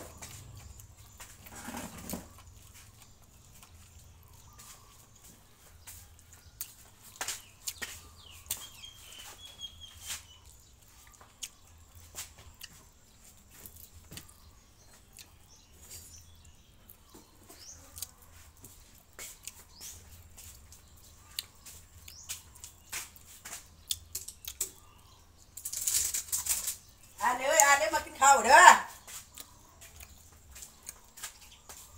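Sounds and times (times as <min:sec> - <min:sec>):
faint bird chirp: 0:00.0 - 0:28.3
chewing and food handling clicks: 0:00.1 - 0:09.3, 0:10.4 - 0:27.0, 0:29.3 - 0:31.9.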